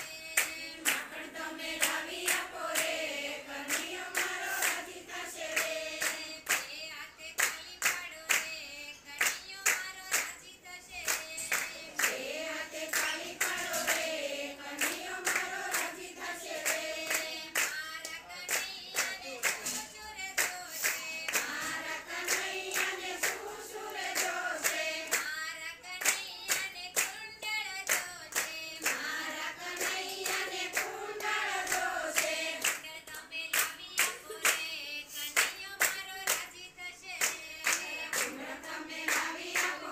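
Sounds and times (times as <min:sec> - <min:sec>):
hands clapping to a beat: 0:00.0 - 0:03.0, 0:03.6 - 0:39.9
women singing together: 0:00.0 - 0:39.9.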